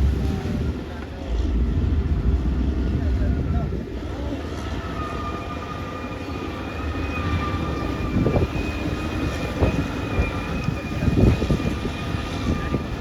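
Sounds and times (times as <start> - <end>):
high engine whine: 0.0 - 13.0
steel tracks clanking: 0.0 - 13.0.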